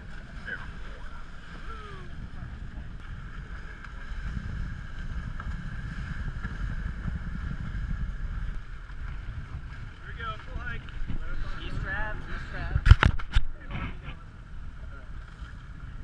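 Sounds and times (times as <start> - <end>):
water splashing along boat hull: 0.0 - 16.0
wind buffeting microphone: 0.0 - 16.0.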